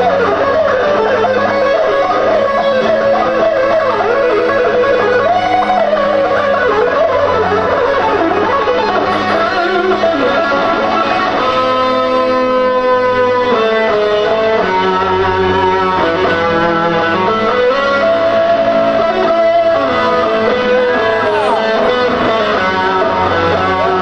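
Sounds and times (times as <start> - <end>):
guitar lead melody: 0.0 - 24.0.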